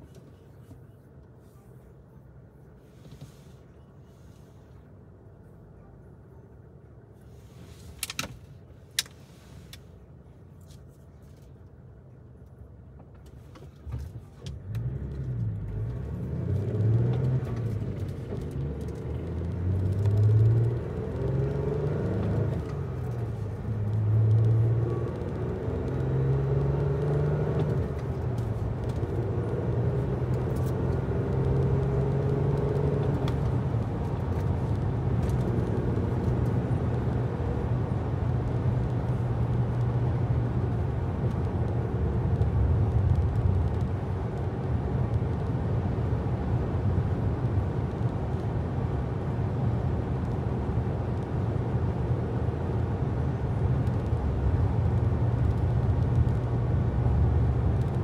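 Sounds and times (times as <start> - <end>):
road noise: 0.0 - 58.0
vehicle engine hum: 0.0 - 58.0.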